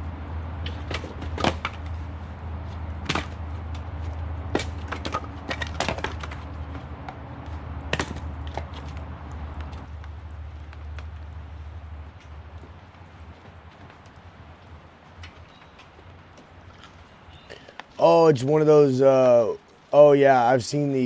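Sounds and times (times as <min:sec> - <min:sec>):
low hum: 0:00.0 - 0:17.6.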